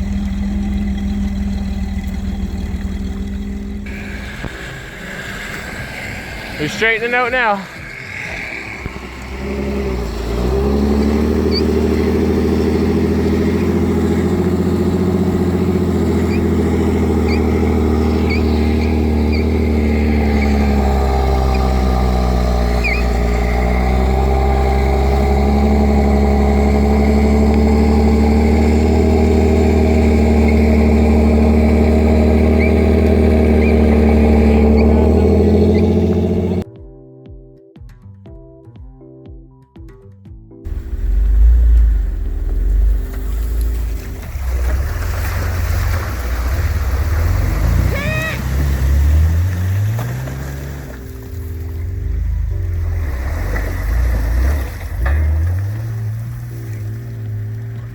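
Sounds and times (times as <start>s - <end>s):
vehicle engine running under load: 0.0s - 36.6s, 40.7s - 57.9s.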